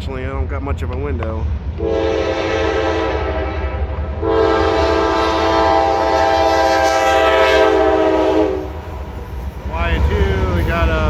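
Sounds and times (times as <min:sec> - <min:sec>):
low rumble of train: 0:00.0 - 0:11.0.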